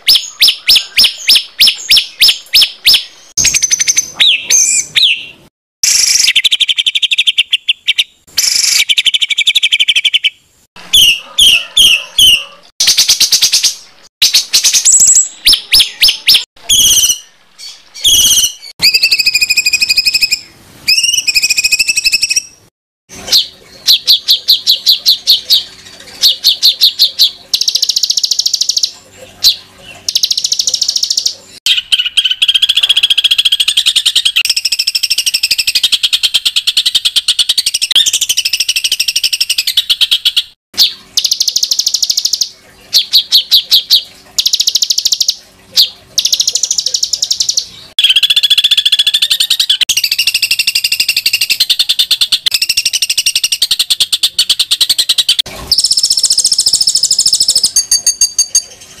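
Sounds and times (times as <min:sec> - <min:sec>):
songbird trills: 0:00.0 - 0:22.6, 0:23.3 - 0:58.8.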